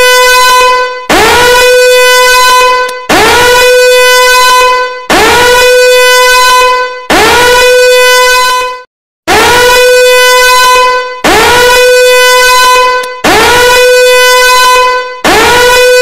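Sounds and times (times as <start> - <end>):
alarm horn blasts: 0.0 - 16.0.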